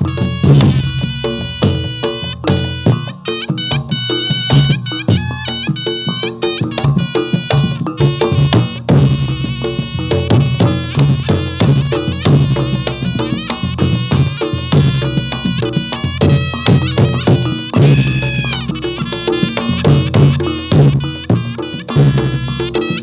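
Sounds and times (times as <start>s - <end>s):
drums beating busy rhythm: 0.0s - 23.0s
ringing tuned percussion: 0.0s - 23.0s.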